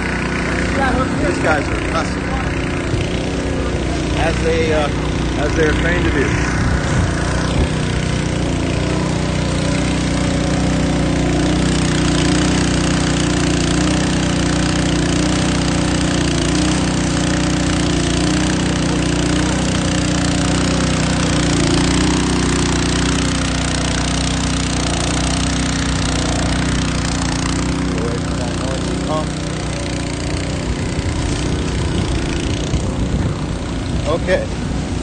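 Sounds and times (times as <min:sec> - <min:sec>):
small gasoline engine running: 0:00.0 - 0:35.0
water spray hissing: 0:00.0 - 0:35.0.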